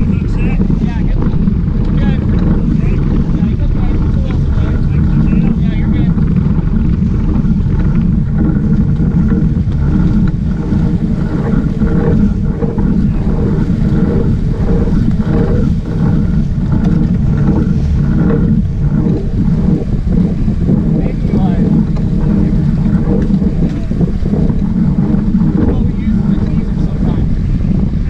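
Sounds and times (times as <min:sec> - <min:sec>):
boat engines rumbling: 0:00.0 - 0:28.0
water splashing against hull: 0:00.0 - 0:28.0
wind on microphone: 0:00.0 - 0:28.0.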